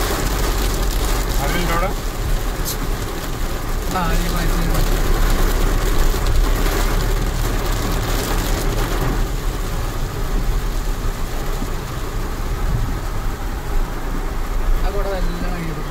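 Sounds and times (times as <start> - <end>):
heavy rain on a car: 0.0 - 15.9.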